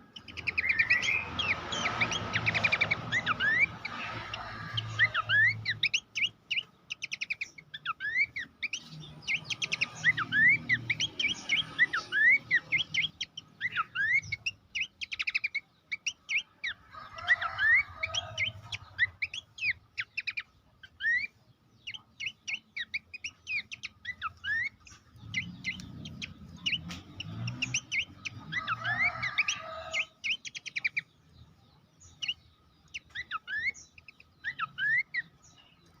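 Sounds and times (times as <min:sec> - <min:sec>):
bird chirping: 0:00.0 - 0:36.0.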